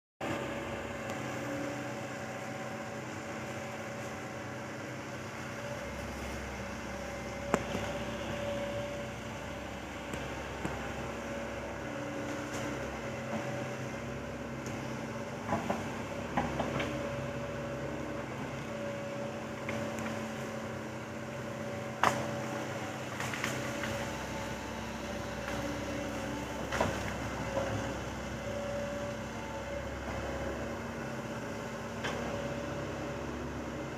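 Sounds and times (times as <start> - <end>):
excavator engine running: 0.2 - 33.9.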